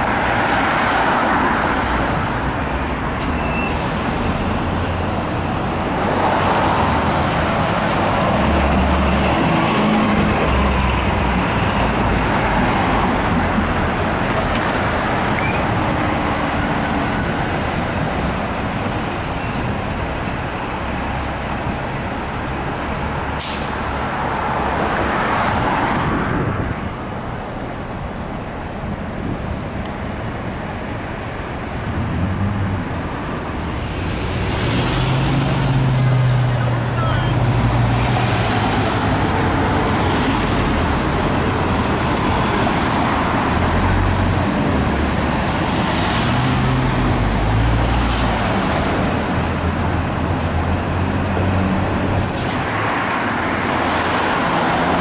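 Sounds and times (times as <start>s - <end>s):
cars passing: 0.0s - 55.0s
tyres on road: 0.0s - 55.0s
bus engine hum: 1.0s - 25.1s, 26.0s - 55.0s.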